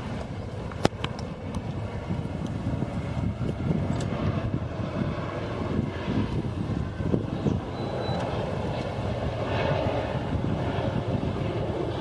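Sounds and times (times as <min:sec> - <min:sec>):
aircraft passing over: 0:00.0 - 0:12.0.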